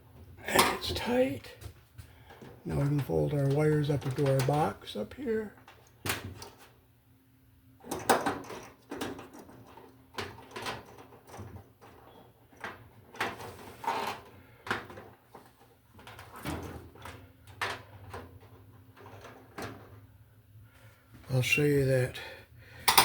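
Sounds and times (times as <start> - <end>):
wires knocking and rustling: 0.1 - 6.8, 7.8 - 20.2.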